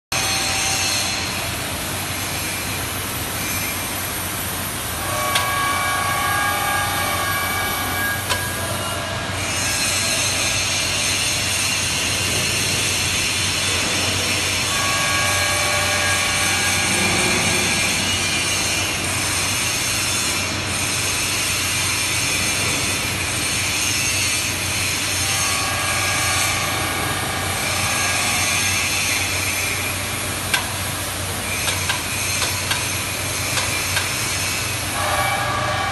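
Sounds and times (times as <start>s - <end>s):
high whining motor tones: 0.2s - 35.9s.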